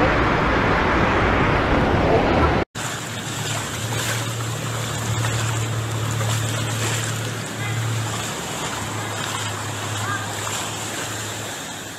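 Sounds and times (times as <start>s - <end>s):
vehicle engine humming: 0.0s - 11.9s
floodwater rushing and splashing: 1.2s - 11.9s.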